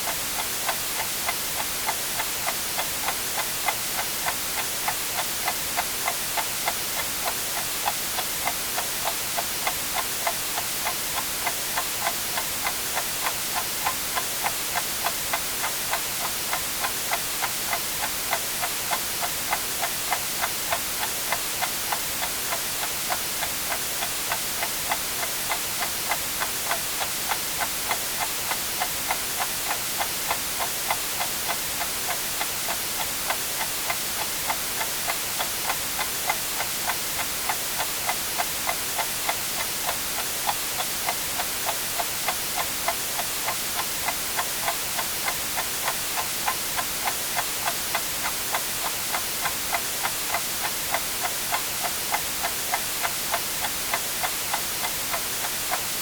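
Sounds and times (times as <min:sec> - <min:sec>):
white noise hiss: 0:00.0 - 0:56.0
mechanical clock ticking: 0:00.1 - 0:56.0.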